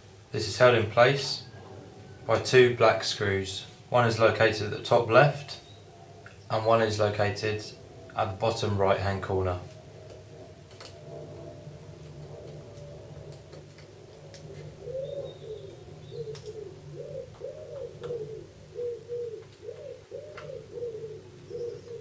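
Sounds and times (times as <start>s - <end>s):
steady low hum: 0.0s - 22.0s
bird cooing: 1.0s - 2.5s, 5.2s - 22.0s.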